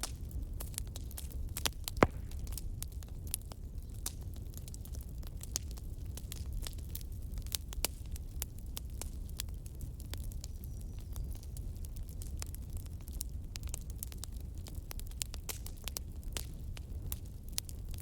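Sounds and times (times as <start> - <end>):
low steady fire rumble: 0.0 - 18.0
wood fire crackling: 0.0 - 18.0.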